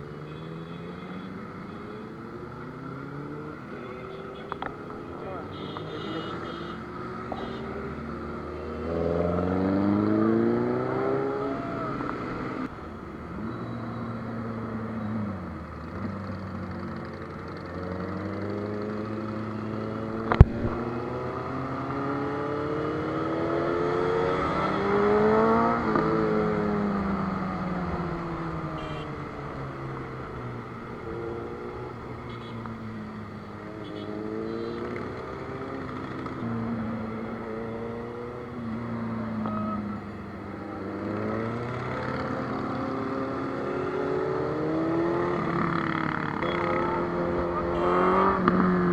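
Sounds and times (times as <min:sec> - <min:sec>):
motorcycle engines accelerating: 0:00.0 - 0:48.9.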